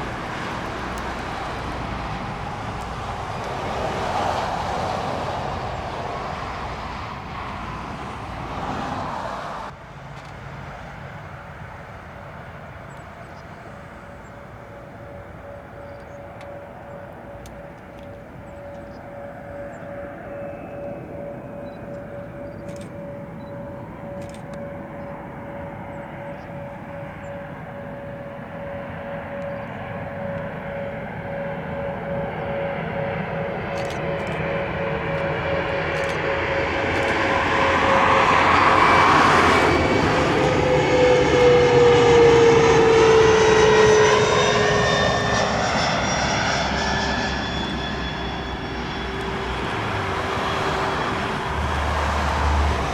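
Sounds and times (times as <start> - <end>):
aircraft engine: 0.0 - 52.9.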